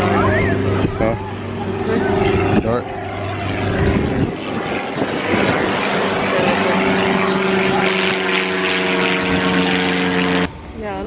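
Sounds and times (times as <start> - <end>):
loud engine drone: 0.0 - 11.0.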